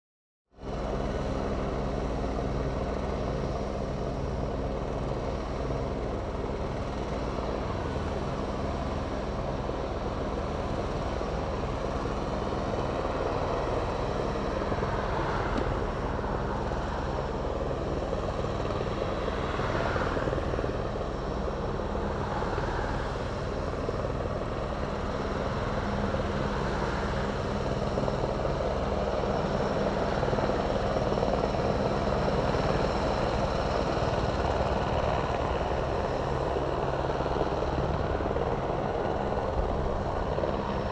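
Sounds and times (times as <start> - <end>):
helicopter rotor and engine drone: 0.5 - 40.9.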